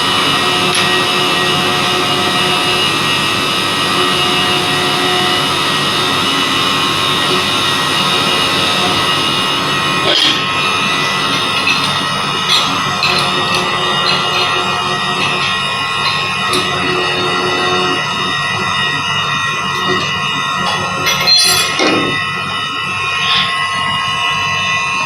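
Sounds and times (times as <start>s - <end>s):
high spindle tones: 0.0s - 25.0s
milling machine cutting: 0.0s - 25.0s.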